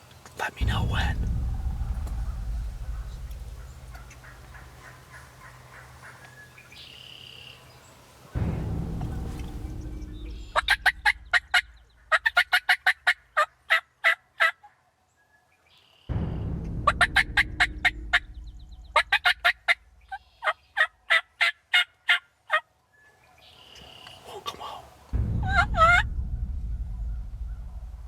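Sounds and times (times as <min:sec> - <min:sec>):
turkey calls: 0:00.0 - 0:14.8, 0:16.8 - 0:26.0.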